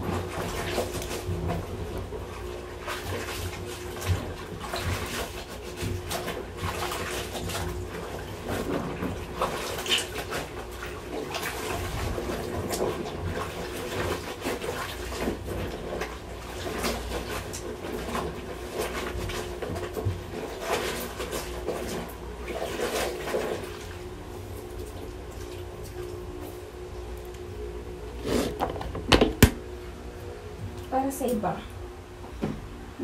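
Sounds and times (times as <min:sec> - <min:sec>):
water splashing and sloshing: 0:00.0 - 0:30.0.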